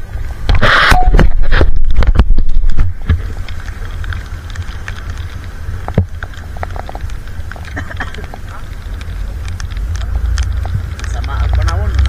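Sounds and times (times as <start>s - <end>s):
raindrops tapping on camera: 0.0s - 12.0s.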